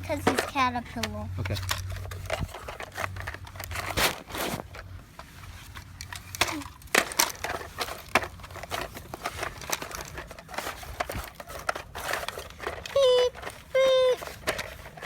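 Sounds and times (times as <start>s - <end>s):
toy excavators scraping dirt: 0.0s - 15.0s.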